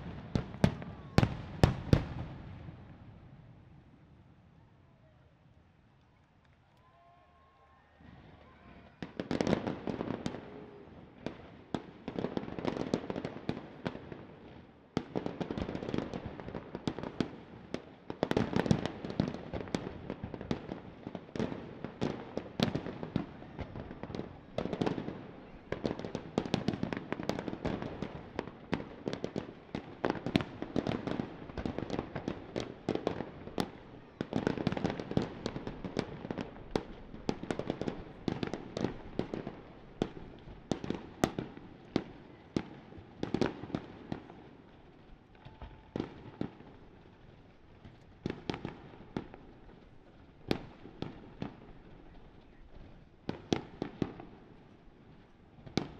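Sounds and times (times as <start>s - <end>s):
fireworks bursts and crackling: 0.0s - 4.0s, 7.9s - 55.9s.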